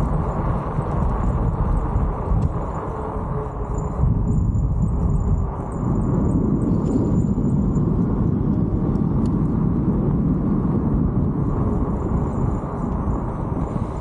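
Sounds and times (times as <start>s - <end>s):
tyre rumble on road: 0.0s - 14.0s
wind noise on microphone: 0.0s - 14.0s.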